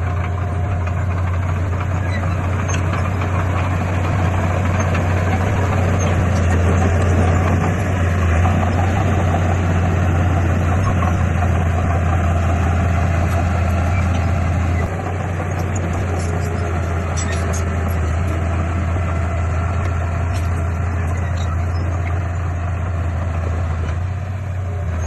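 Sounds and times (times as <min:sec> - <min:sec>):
heavy diesel engine humming: 0:00.0 - 0:25.0.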